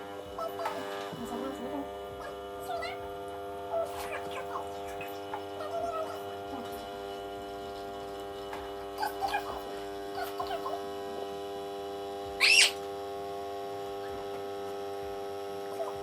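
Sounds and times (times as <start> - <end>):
espresso machine humming: 0.0 - 16.0.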